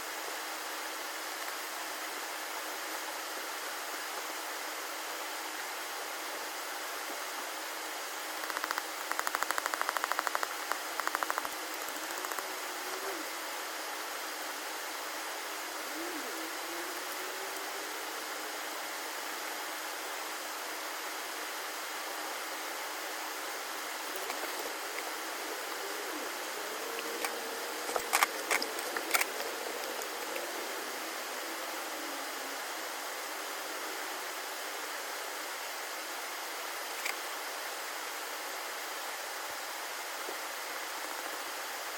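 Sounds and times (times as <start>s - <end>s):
river rushing: 0.1s - 41.9s.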